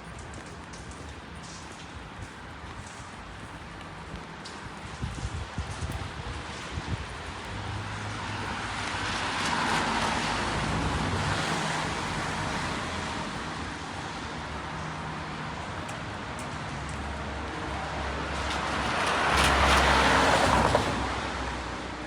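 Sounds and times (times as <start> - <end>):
car tyres hissing on wet street: 0.0 - 22.0.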